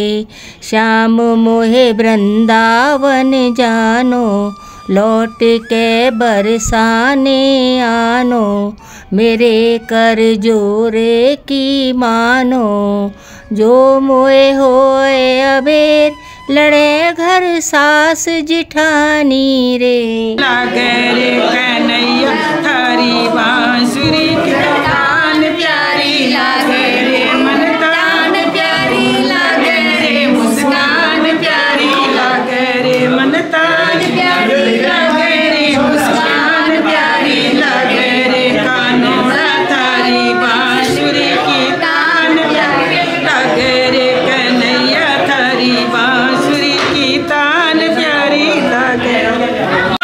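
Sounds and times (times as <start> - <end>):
group singing devotional song: 0.0 - 50.0.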